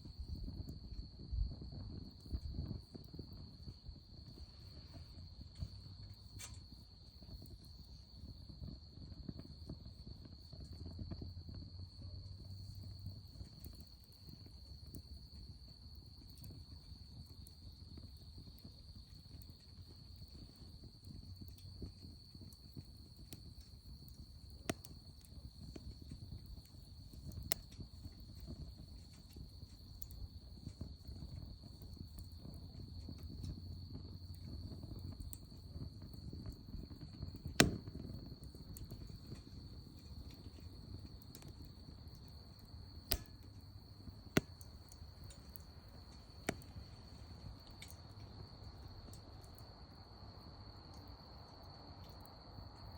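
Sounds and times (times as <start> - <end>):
fire crackles: 0.0 - 52.9
wood fire rumbling: 0.0 - 52.9.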